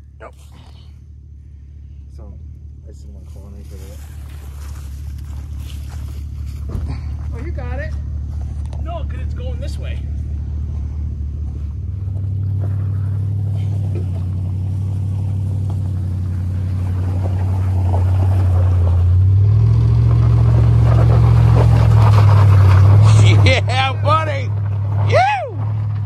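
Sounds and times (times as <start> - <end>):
engine running under load: 0.0 - 26.0.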